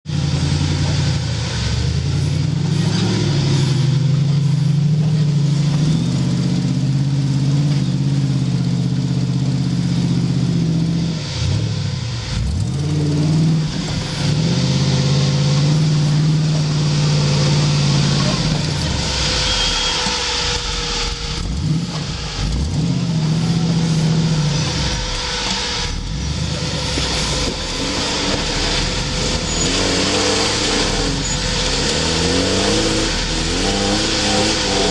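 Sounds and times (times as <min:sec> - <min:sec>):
off-road vehicle engine revving: 0:00.0 - 0:34.9.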